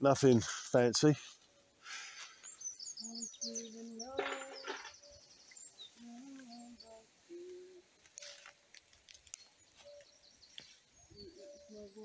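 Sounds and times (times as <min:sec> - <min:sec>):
faint woodland birdsong: 0:00.0 - 0:12.0.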